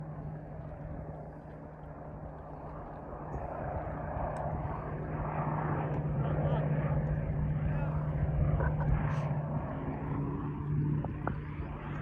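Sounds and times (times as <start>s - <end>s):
airplane engines running: 0.0s - 12.0s.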